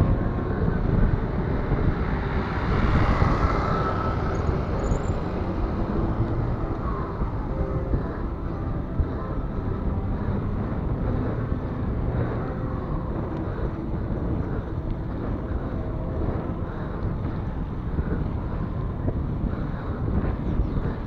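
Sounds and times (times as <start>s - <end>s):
bike tyres rumbling on asphalt: 0.0s - 21.0s
wind on microphone: 0.0s - 21.0s.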